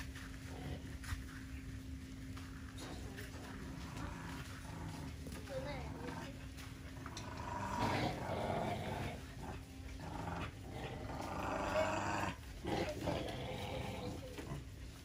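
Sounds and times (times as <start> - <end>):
dogs growling and snarling: 0.0 - 1.6, 2.4 - 15.0.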